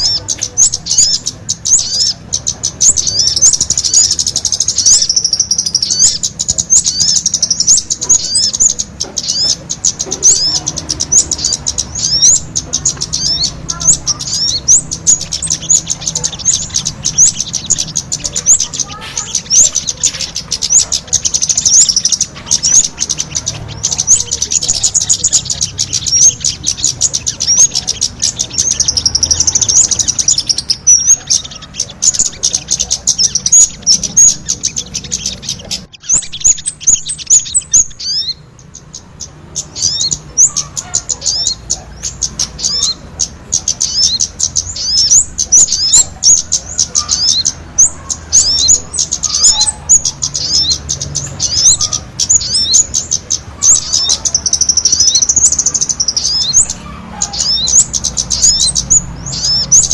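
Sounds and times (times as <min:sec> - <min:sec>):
bird calls: 0:00.0 - 0:59.9
flock of birds chirping: 0:00.0 - 0:59.9.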